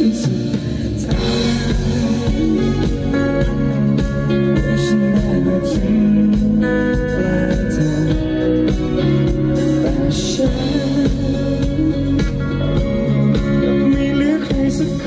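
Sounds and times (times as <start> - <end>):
acoustic guitar: 0.0 - 15.0
man singing: 0.0 - 15.0.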